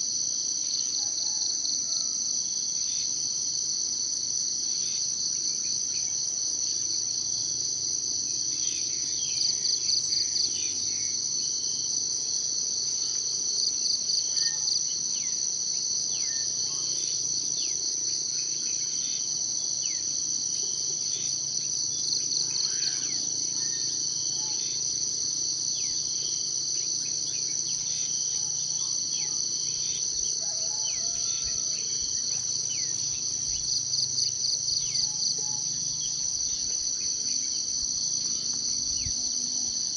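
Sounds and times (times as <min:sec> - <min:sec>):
high-pitched insect chorus: 0:00.0 - 0:39.9
pulsing insect trill: 0:00.0 - 0:39.9.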